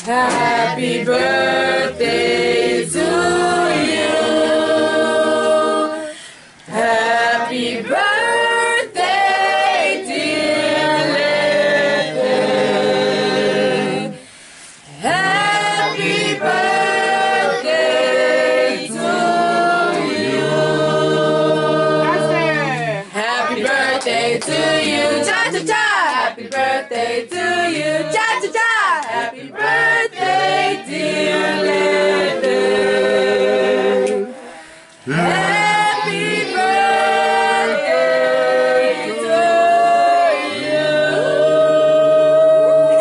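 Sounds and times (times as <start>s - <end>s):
group singing a cappella: 0.0s - 43.0s.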